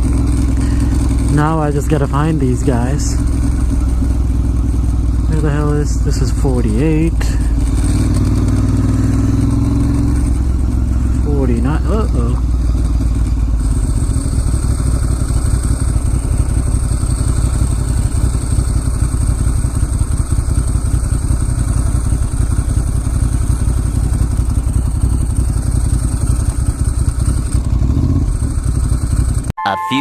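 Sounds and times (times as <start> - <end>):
motorcycle engine running: 0.0 - 29.5.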